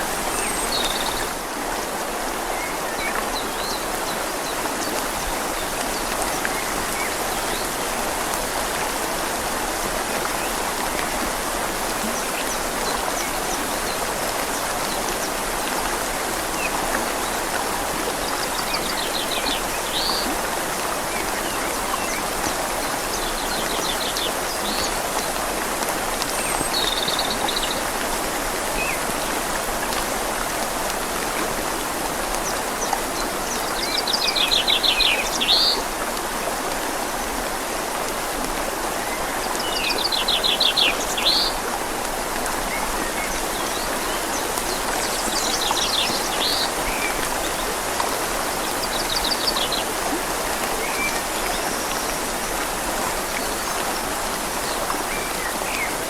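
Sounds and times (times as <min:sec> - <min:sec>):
rain falling on leaves: 0:00.0 - 0:56.0
river flowing: 0:00.0 - 0:56.0.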